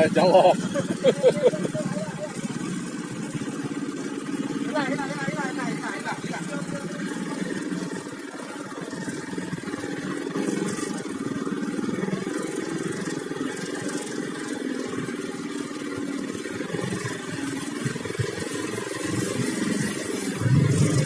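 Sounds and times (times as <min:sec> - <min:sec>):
floodwater splashing and churning: 0:00.4 - 0:21.0.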